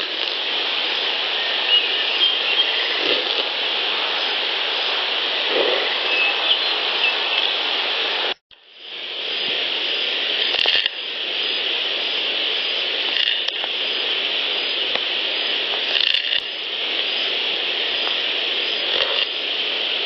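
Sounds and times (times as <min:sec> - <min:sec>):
high background hiss: 0:00.0 - 0:20.0.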